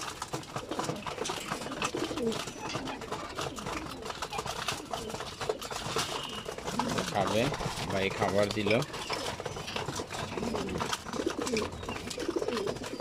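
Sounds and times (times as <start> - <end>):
birds pecking at grain: 0.0 - 13.0
pigeons cooing: 0.0 - 13.0.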